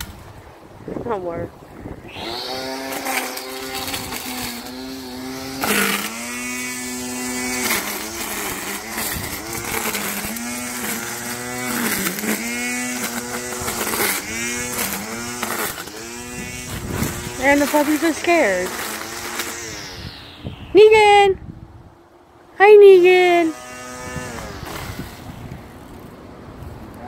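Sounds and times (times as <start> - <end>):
small engine running: 2.1 - 21.3, 22.8 - 26.2.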